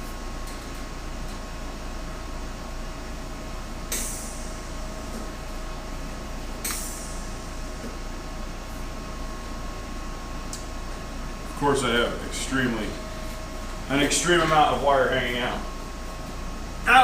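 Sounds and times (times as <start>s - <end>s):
steady shop hum: 0.0s - 17.0s.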